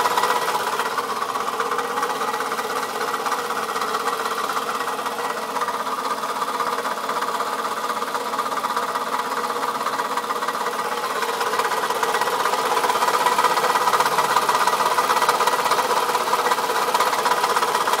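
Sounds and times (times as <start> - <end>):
car engine knocking: 0.0 - 18.0.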